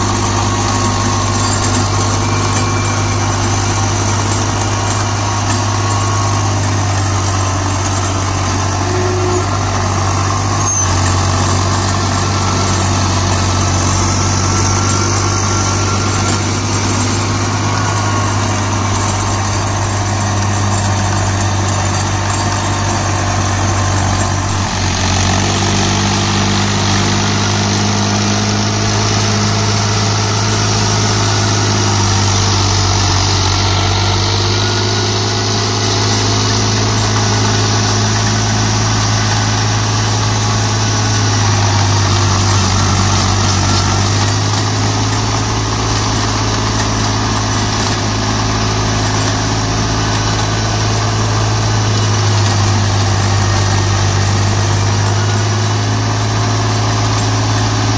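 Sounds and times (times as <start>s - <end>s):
tractor engine running under load: 0.0s - 57.9s.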